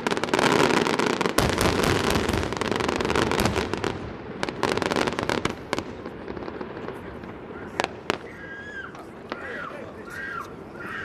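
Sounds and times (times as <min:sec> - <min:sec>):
firework bang: 0:00.0 - 0:09.7
fireworks crackling: 0:00.0 - 0:11.0.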